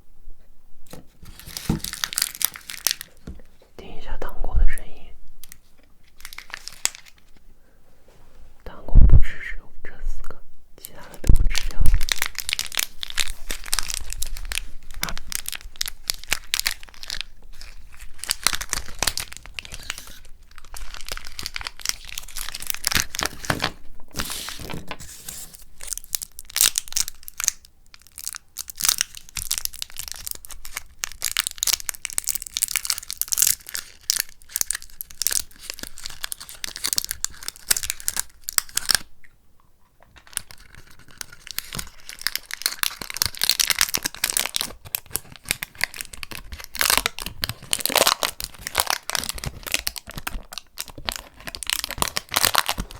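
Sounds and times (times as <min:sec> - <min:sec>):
packaging crinkling and tearing: 0:00.9 - 0:03.7, 0:05.4 - 0:07.4, 0:10.9 - 0:39.1, 0:40.0 - 0:52.9.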